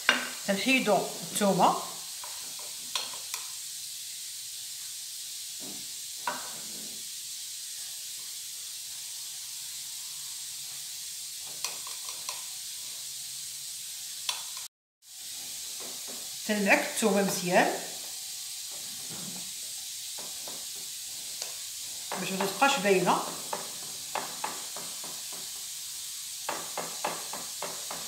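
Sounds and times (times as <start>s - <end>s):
high background hiss: 0.0s - 28.0s.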